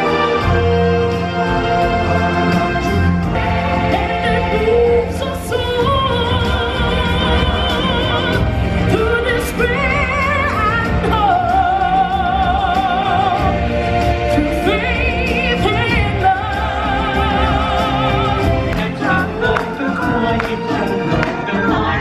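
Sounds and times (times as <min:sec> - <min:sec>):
drums and band playing: 0:00.0 - 0:22.0.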